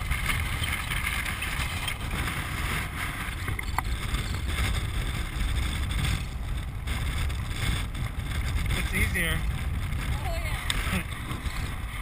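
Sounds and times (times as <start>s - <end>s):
wheels rolling on hard ground: 0.0s - 12.0s
wind on microphone: 0.0s - 12.0s.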